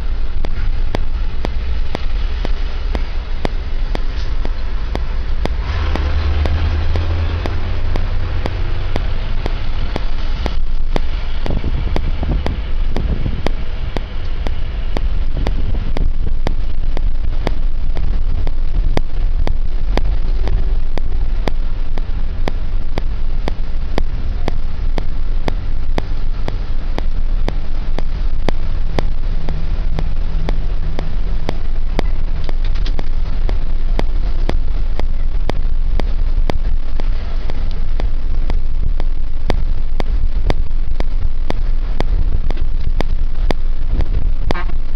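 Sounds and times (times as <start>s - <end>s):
vehicle engine and road rumble: 0.0s - 44.9s.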